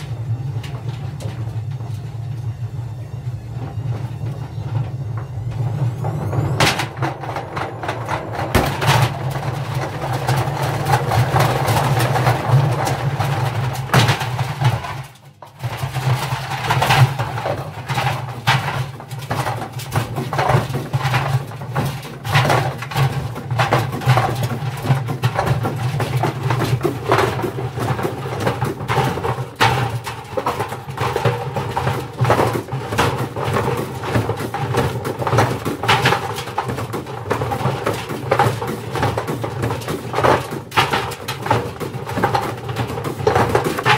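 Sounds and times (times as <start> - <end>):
washing machine motor hum: 0.0 - 43.9
bricks banging in drum: 6.0 - 43.9.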